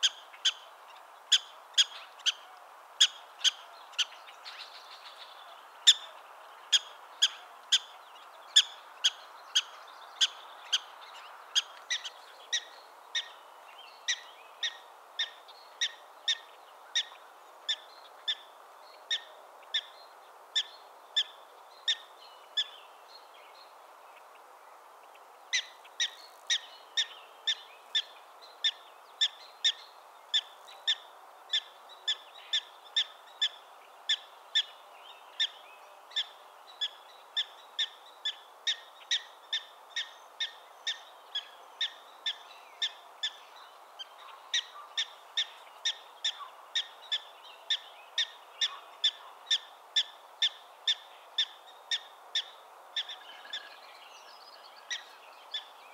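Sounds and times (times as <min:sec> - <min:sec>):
steady background hiss: 0:00.0 - 0:55.9.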